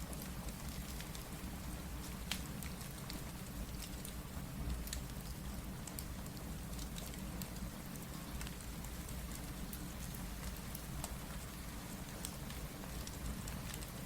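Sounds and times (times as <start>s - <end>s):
steady rain hiss: 0.0s - 14.0s
fireplace crackling: 0.1s - 14.0s.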